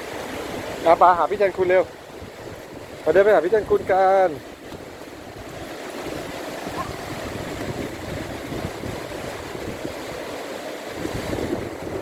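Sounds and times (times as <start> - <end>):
sea surf washing: 0.0 - 12.0
wind rumbling on microphone: 0.0 - 12.0.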